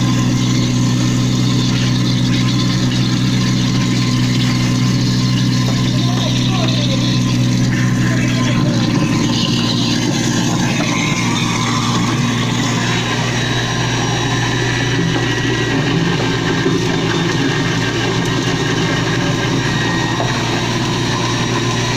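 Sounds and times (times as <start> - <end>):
disposer grinding scraps: 0.0 - 21.9
food waste disposer motor hum: 0.0 - 21.9
slurry pouring into drain: 0.0 - 21.9
tap water running: 0.0 - 21.9.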